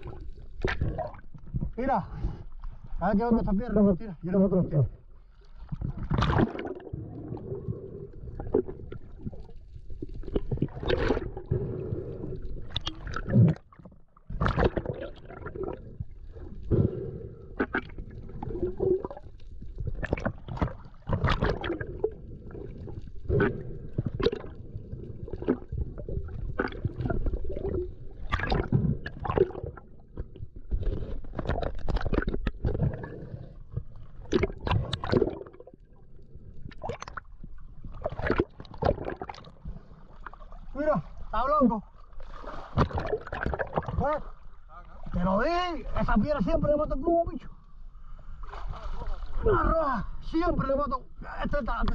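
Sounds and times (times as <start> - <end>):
muffled water sloshing: 0.0 - 51.9.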